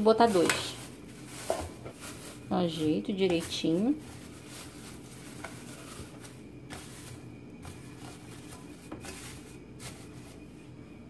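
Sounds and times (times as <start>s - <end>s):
plastic bags rustling and crinkling: 0.0s - 10.7s
faint steady background hum: 0.0s - 11.0s.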